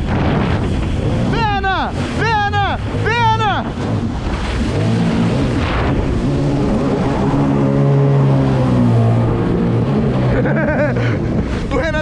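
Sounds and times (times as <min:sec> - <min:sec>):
jet ski engine running: 0:00.0 - 0:12.0
water rushing against hull: 0:00.0 - 0:12.0.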